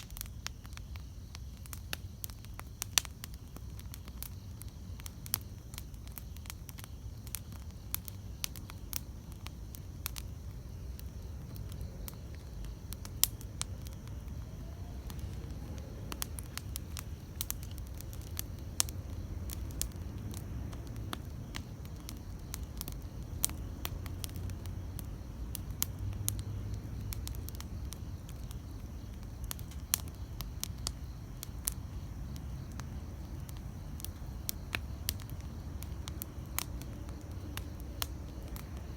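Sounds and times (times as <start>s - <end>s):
campfire crackling and popping: 0.0s - 38.9s
low rumble of flame: 0.0s - 38.9s.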